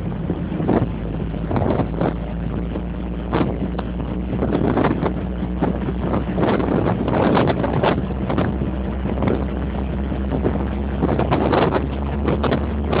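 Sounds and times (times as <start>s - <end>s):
car engine running: 0.0s - 13.0s
wind gusting on microphone: 0.0s - 13.0s.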